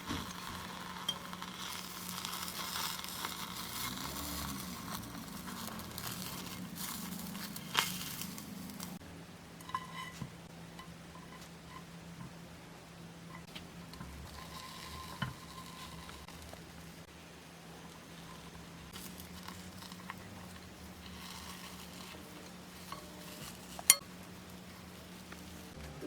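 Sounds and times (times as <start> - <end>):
egg sizzling in frying pan: 0.0 - 9.0, 13.4 - 25.8.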